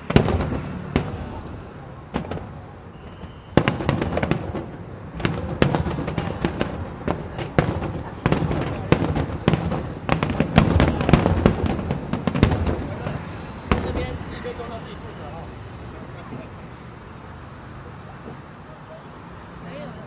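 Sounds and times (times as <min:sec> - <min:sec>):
fireworks bangs and pops: 0:00.0 - 0:18.8.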